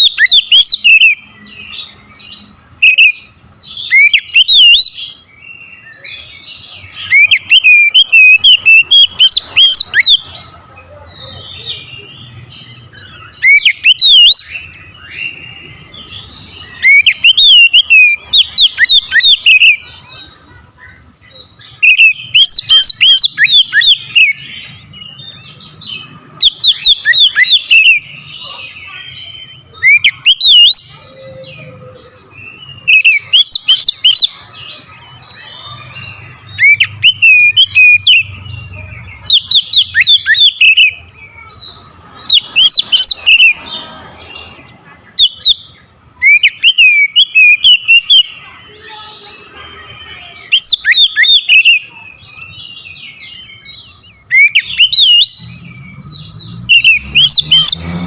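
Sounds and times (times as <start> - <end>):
bird singing whistled phrases: 0.0 - 10.3, 11.6 - 20.2, 20.9 - 43.6, 45.1 - 57.9.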